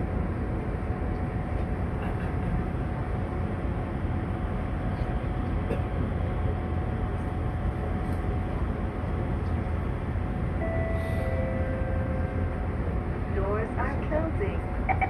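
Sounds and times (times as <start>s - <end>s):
faint steady whine: 0.0s - 15.0s
train car hum and whir: 0.0s - 15.0s.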